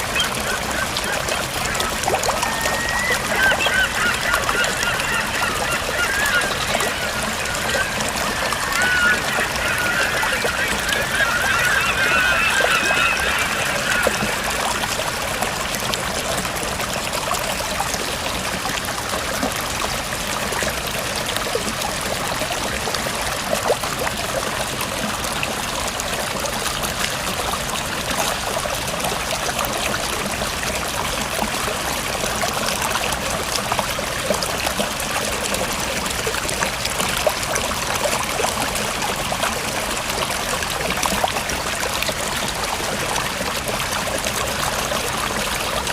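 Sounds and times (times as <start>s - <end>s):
river water flowing: 0.0s - 45.9s.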